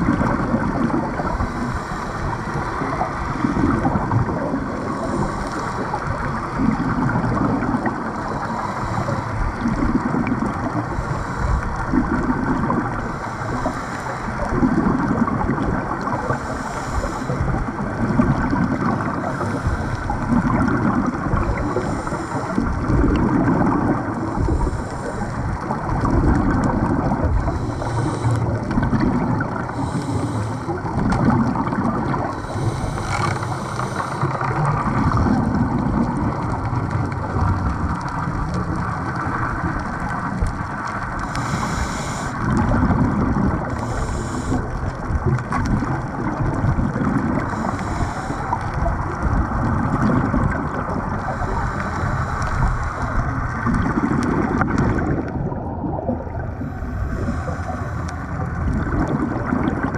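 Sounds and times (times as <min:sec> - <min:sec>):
muffled underwater rushing: 0:00.0 - 0:59.9.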